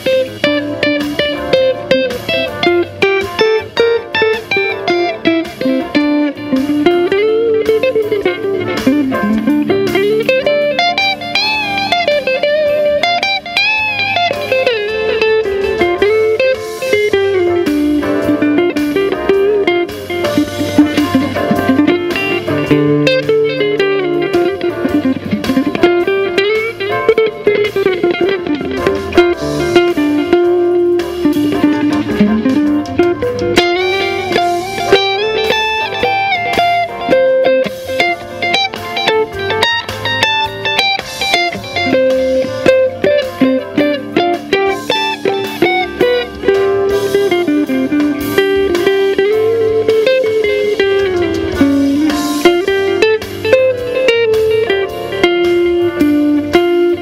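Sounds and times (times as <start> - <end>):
electric guitar jazz melody: 0.0 - 57.0
steady bass line: 0.0 - 57.0.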